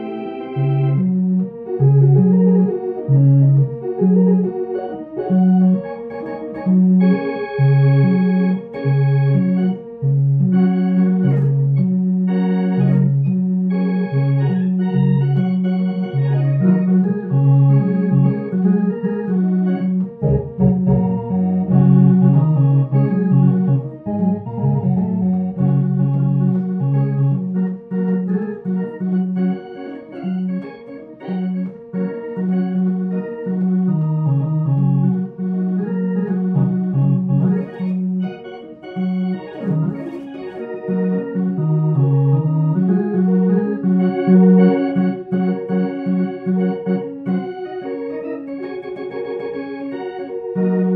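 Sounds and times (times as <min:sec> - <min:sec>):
organ playing blues: 0:00.0 - 0:50.9.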